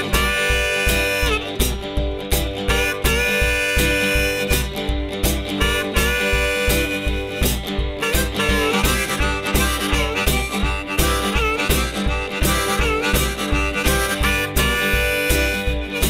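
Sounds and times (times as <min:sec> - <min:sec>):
bass drum thumps: 0:00.0 - 0:16.0
harmonica with bending notes: 0:00.0 - 0:16.0
strummed acoustic guitar: 0:00.0 - 0:16.0.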